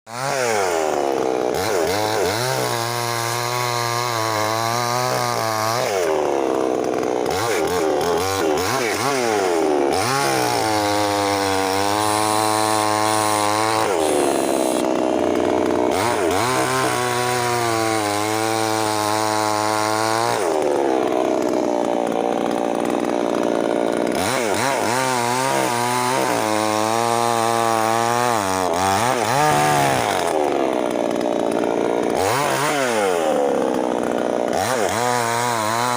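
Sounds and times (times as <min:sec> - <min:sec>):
chainsaw engine revving: 0:00.1 - 0:35.9.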